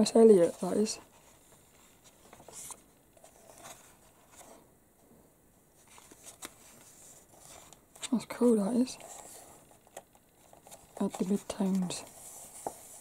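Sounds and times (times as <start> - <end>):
soft paper and hand sounds: 0.0 - 13.0
magazine page turning: 0.4 - 4.6, 5.8 - 13.0.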